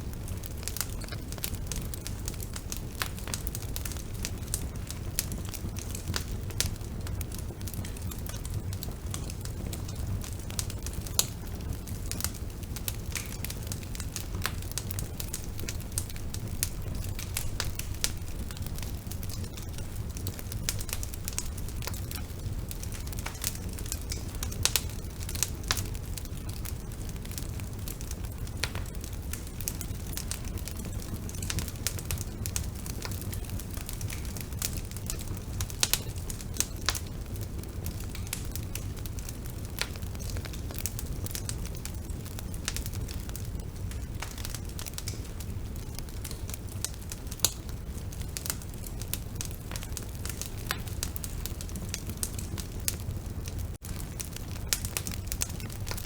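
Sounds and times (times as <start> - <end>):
bonfire flames rumbling: 0.0 - 56.0
fire crackling and popping: 0.0 - 56.0.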